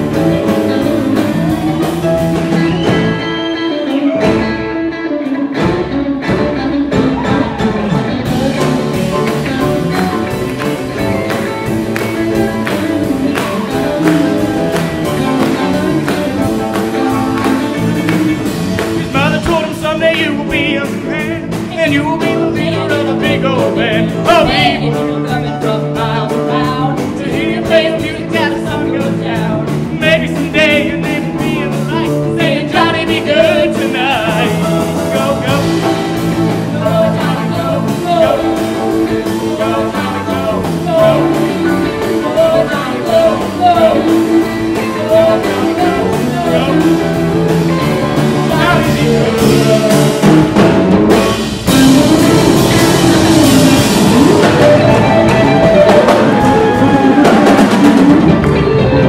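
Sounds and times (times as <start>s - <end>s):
bending lead melody: 0.0s - 59.0s
rock band playing instrumental: 0.0s - 59.0s.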